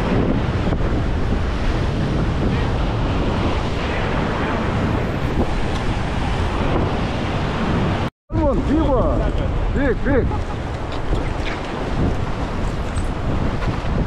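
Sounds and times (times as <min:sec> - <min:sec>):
ocean surf over rocks: 0:00.0 - 0:14.0
wind buffeting microphone: 0:00.0 - 0:14.0.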